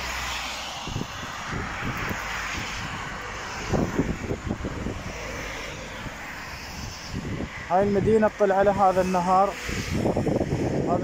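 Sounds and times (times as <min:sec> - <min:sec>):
outdoor rushing noise: 0:00.0 - 0:11.0
wind buffeting microphone: 0:00.0 - 0:11.0.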